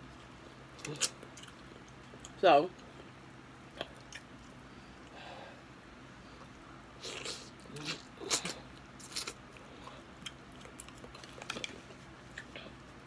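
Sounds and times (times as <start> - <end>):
chewing shrimp: 0.1 - 4.7, 7.0 - 13.0.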